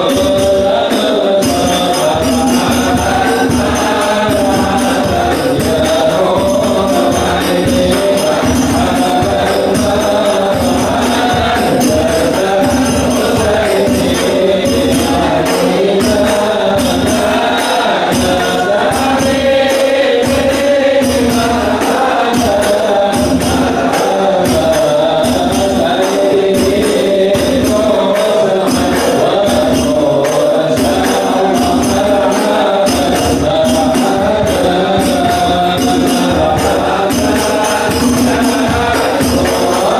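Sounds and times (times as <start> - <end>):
men singing in unison: 0.0 - 39.9.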